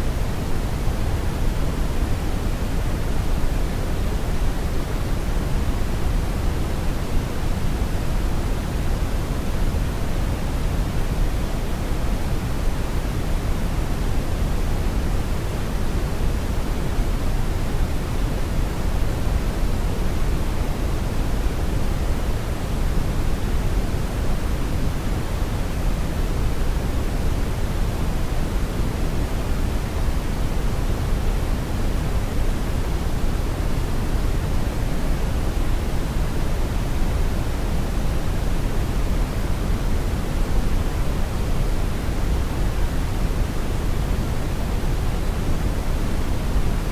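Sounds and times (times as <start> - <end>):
brown noise hiss: 0.0 - 46.9.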